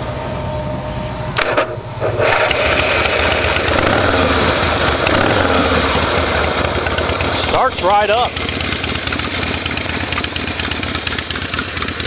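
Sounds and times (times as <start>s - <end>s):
motorcycle engine running: 0.0s - 12.0s
motorcycle engine starting: 1.4s - 12.0s.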